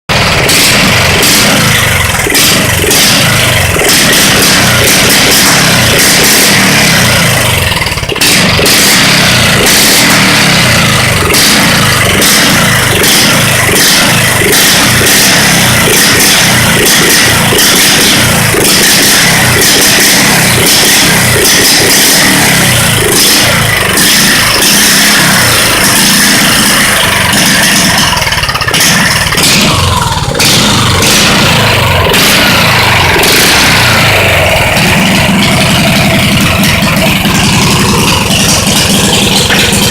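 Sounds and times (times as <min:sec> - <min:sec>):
loud single-cylinder engine revving: 0:00.0 - 0:39.9.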